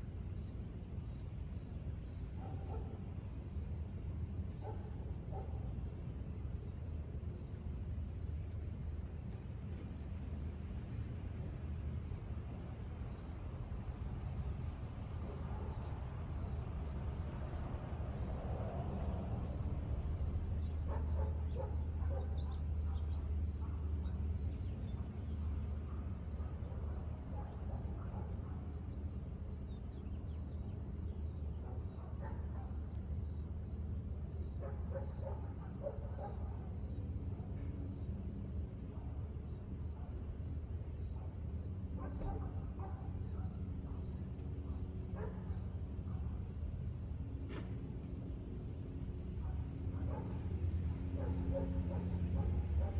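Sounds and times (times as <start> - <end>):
cricket chirping: 0.0 - 52.9.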